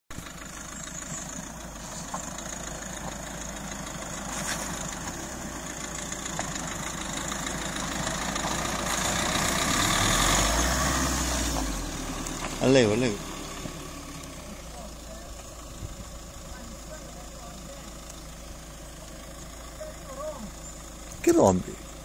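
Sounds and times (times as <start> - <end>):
vehicle engine at low revs: 0.1 - 22.0.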